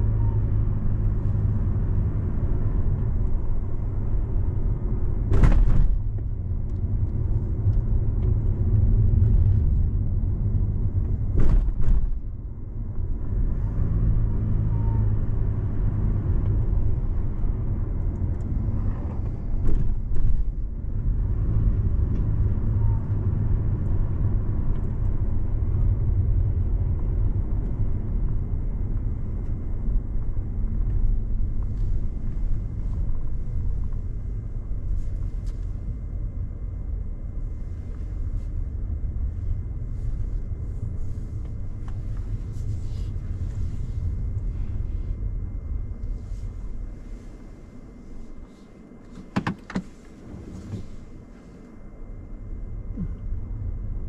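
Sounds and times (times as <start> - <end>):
car engine rumble: 0.0 - 54.0
road noise: 0.0 - 54.0.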